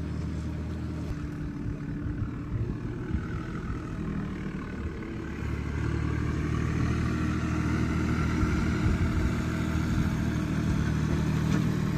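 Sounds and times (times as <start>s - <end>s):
engine running: 0.0s - 11.9s.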